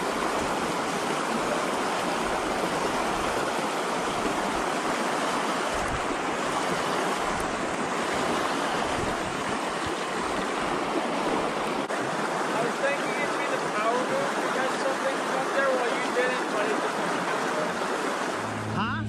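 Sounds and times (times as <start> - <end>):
river rushing over rocks: 0.0 - 18.8.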